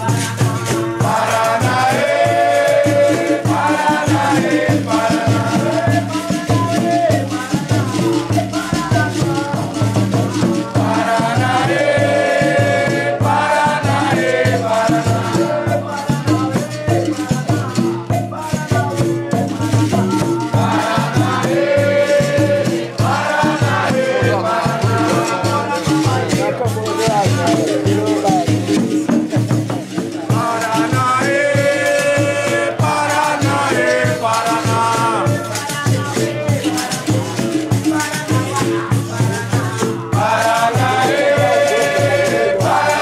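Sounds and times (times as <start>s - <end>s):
berimbau and percussion rhythm: 0.0s - 43.0s
group call-and-response singing: 0.0s - 43.0s.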